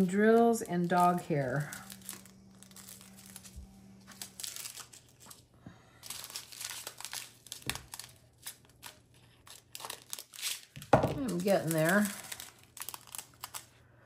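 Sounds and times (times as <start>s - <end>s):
plastic bags crinkling: 0.0s - 13.8s.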